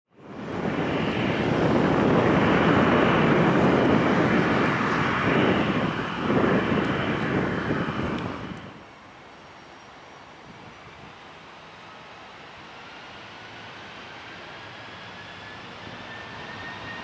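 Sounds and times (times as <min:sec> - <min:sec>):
distant jet rumble: 0:00.1 - 0:17.0
jet engines rolling past: 0:00.1 - 0:17.0.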